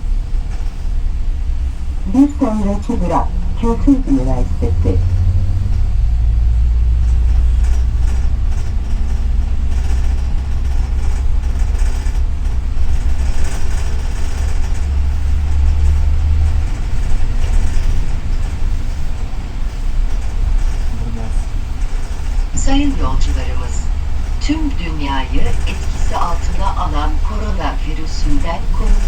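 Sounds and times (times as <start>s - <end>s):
bus engine and road noise: 0.0s - 29.0s
rattling inside bus: 0.0s - 29.0s.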